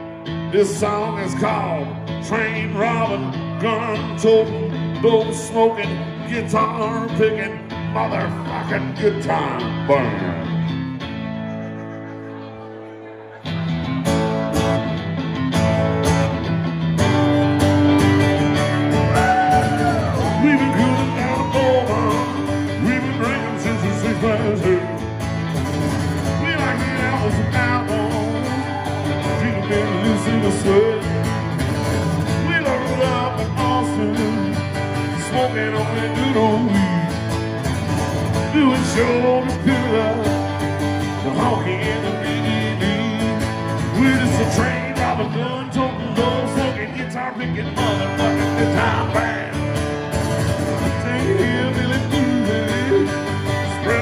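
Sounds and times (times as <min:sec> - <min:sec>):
acoustic guitars strummed and picked: 0:00.0 - 0:54.0.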